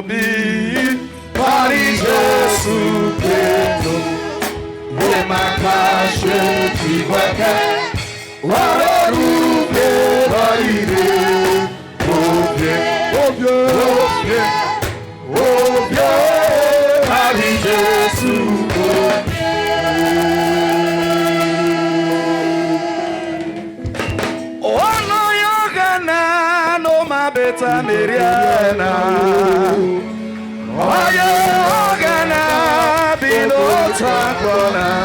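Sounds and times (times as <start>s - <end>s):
instrumental accompaniment: 0.0s - 35.0s
voices singing together: 0.0s - 35.0s.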